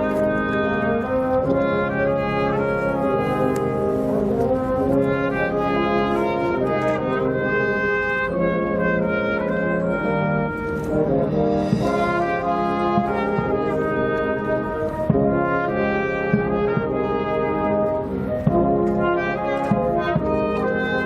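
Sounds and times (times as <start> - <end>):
brass band playing chords: 0.0 - 21.0.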